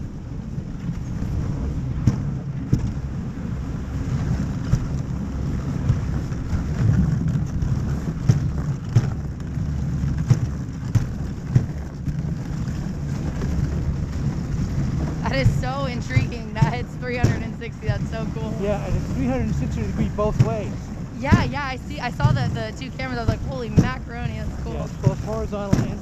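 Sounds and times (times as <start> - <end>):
sled runners rumbling on snow: 0.0 - 26.0
sled knocking over bumps: 0.8 - 26.0.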